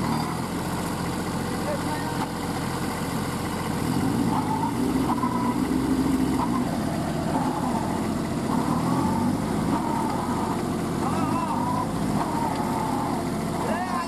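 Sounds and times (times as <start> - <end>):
tractor engines running under load: 0.0 - 14.0.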